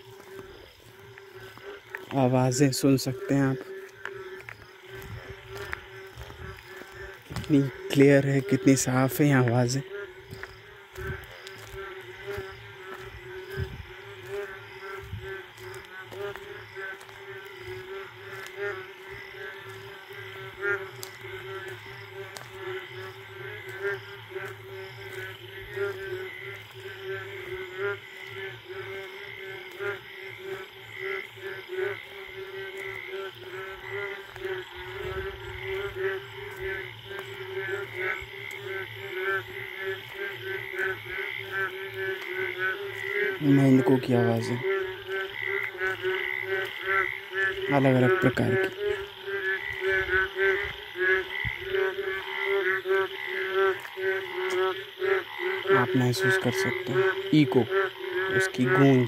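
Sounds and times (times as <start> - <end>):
frogs calling in chorus: 0.0 - 59.0.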